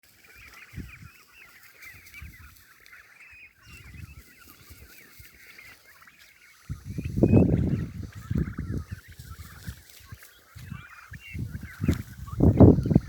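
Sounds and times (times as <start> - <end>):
young turkeys chirping and peeping: 0.0 - 13.0.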